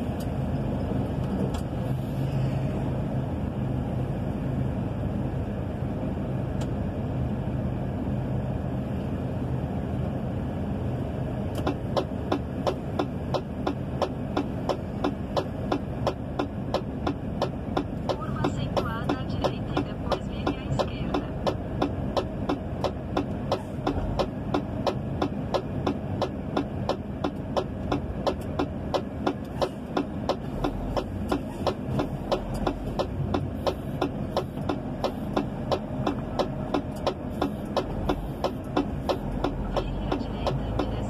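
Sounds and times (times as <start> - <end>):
truck engine and road rumble: 0.0 - 41.0.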